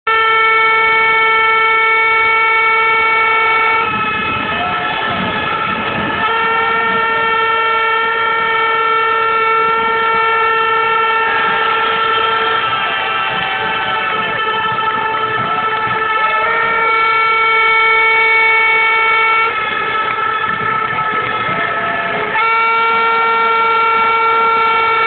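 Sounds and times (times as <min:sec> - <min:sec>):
crowd noise: 0:00.0 - 0:25.0
air horn blasts: 0:00.1 - 0:25.0.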